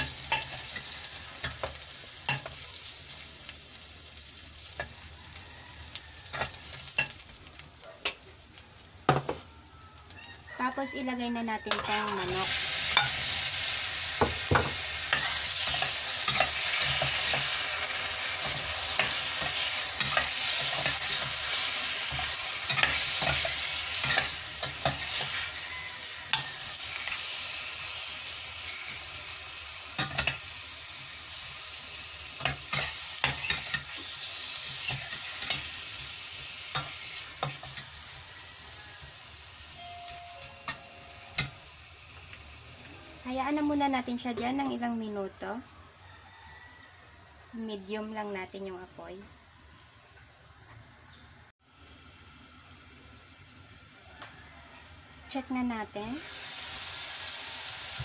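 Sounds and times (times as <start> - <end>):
chicken sizzling in hot oil: 0.0 - 45.5, 51.6 - 58.0.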